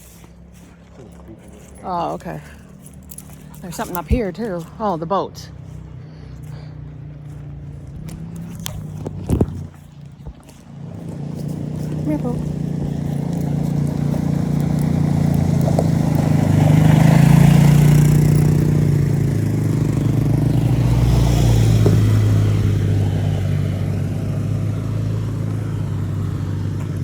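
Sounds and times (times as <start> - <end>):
motor vehicle engine passing: 0.0 - 27.0.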